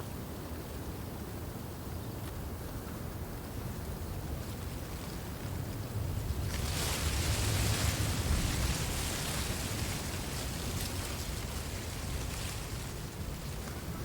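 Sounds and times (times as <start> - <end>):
wind buffeting microphone: 0.0 - 14.0
wind rustling reeds: 0.2 - 14.0.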